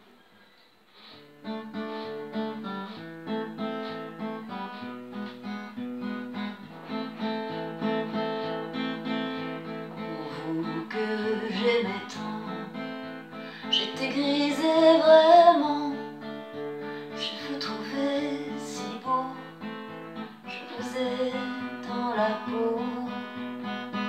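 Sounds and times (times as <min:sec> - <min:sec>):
acoustic guitar plucking: 0:01.0 - 0:24.0.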